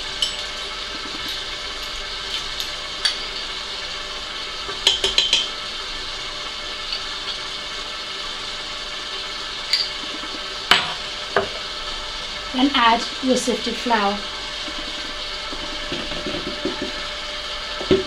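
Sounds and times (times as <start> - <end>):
stand mixer running: 0.0 - 18.0.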